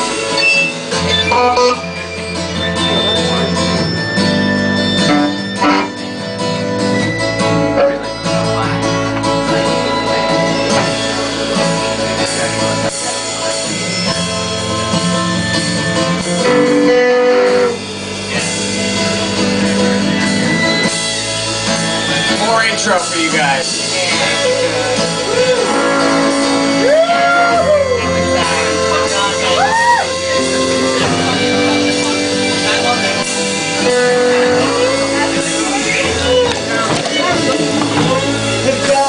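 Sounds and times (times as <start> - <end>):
live band instrumental: 0.0 - 39.0.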